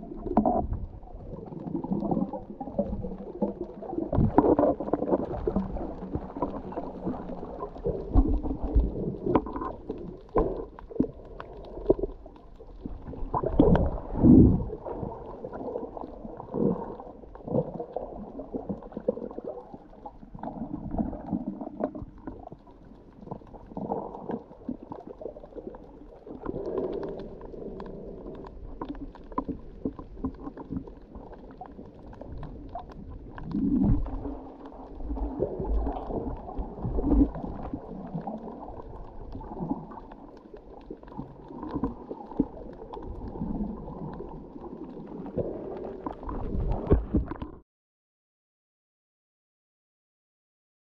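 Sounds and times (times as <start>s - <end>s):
low underwater rumble: 0.0s - 47.6s
underwater gurgling and sloshing: 0.0s - 47.6s.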